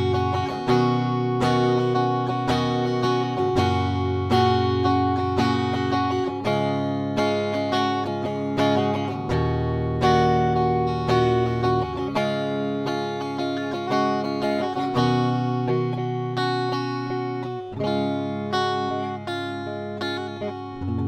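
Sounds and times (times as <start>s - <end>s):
electric guitar chords strummed: 0.0s - 21.0s.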